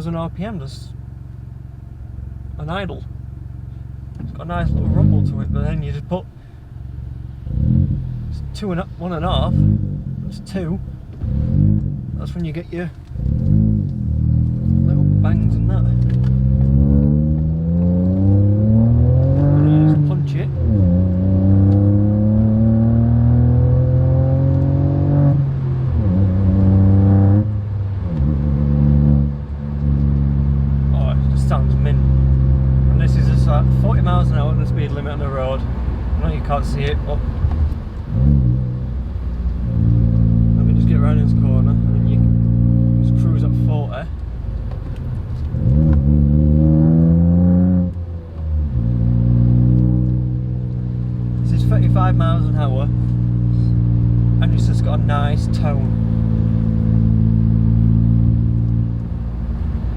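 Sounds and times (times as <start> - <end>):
car engine accelerating hard: 3.7 - 6.3, 7.0 - 59.9.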